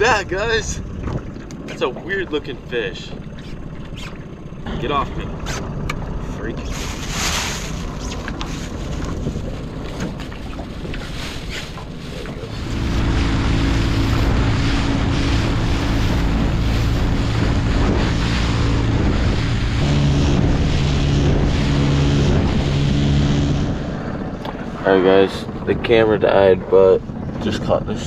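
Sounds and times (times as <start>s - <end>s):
water rushing past hull: 0.0s - 26.1s
boat motor running: 0.0s - 28.0s
wind buffeting microphone: 0.0s - 28.0s.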